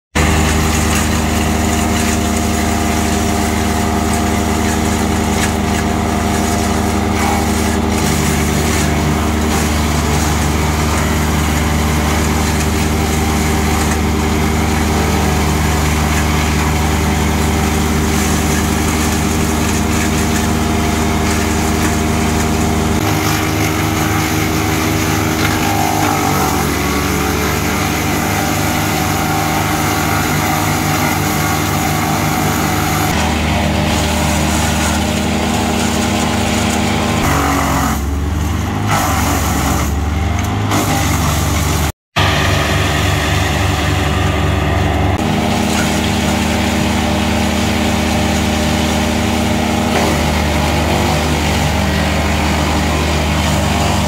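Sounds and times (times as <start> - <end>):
woodchipper chipping brush: 0.1 - 54.0
woodchipper diesel engine running: 0.1 - 54.0.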